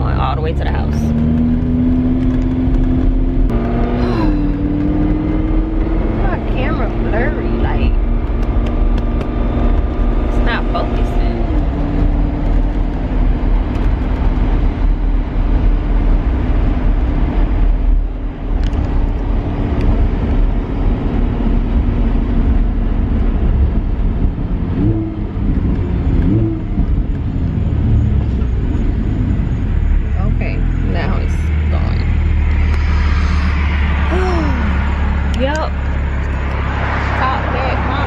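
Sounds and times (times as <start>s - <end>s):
car engine running: 0.0s - 38.0s
low road rumble: 0.0s - 38.0s.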